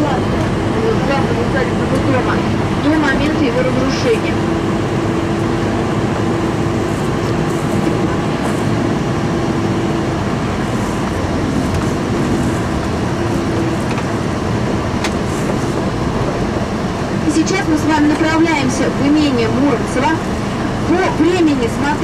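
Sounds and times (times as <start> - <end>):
bus engine and road rumble: 0.0 - 22.0
low engine hum: 0.0 - 22.0.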